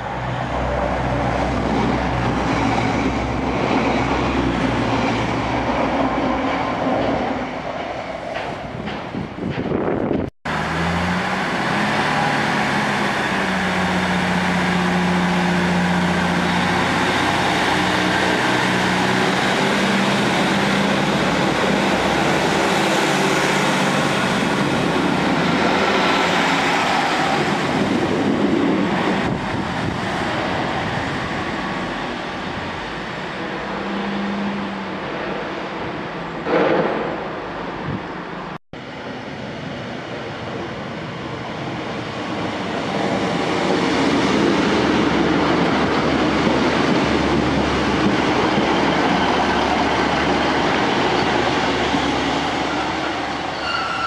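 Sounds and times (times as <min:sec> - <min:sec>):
diesel train engine and wheel noise: 0:00.0 - 0:54.0
train passing by: 0:00.0 - 0:54.0.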